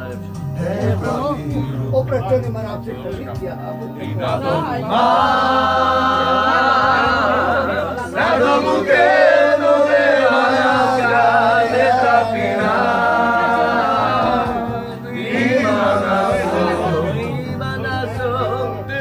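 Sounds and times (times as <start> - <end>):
voices singing held notes: 0.0 - 19.0.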